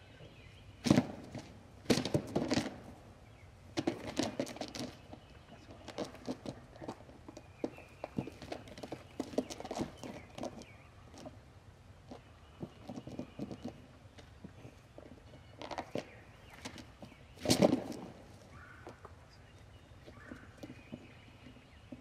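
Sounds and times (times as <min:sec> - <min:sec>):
turkey wing beats: 0:00.8 - 0:22.0.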